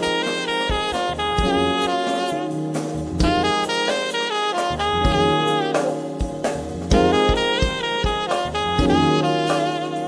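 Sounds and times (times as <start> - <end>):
drum and bass hits: 0.0 - 10.0
saxophone melody: 0.0 - 10.0.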